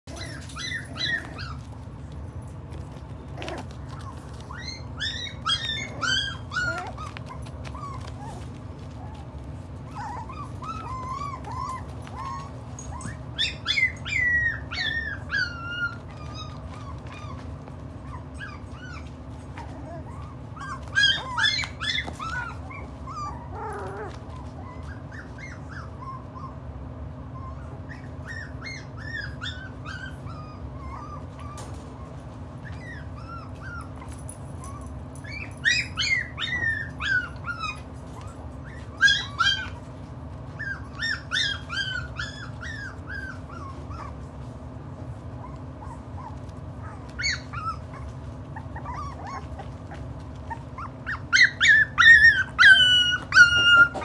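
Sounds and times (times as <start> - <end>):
puppies whining and yipping: 0.0 - 54.0
steady low hum: 0.1 - 54.0.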